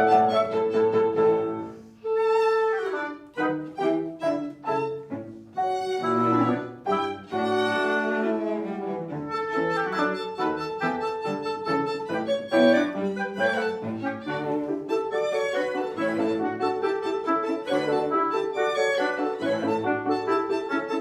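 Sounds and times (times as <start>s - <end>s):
chamber ensemble playing: 0.0s - 21.0s
bowed strings: 3.3s - 21.0s.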